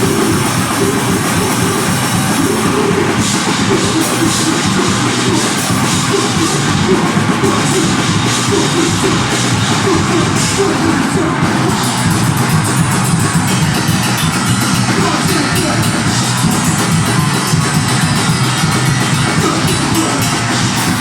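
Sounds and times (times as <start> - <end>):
distorted guitar and bass: 0.0 - 21.0
drum kit with crashing cymbals: 0.0 - 21.0.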